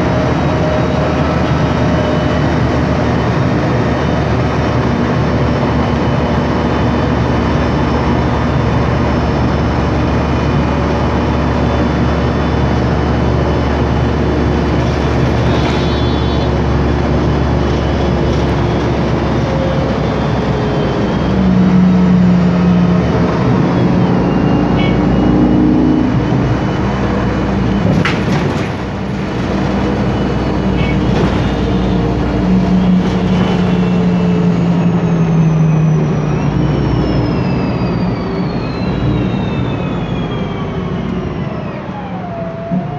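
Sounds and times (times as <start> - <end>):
bus engine hum: 0.0 - 42.9.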